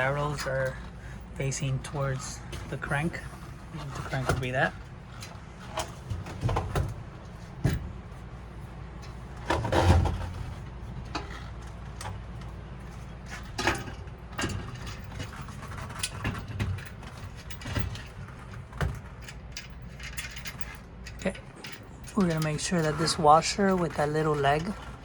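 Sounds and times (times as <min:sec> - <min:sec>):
light metallic rattles: 0:00.0 - 0:25.0.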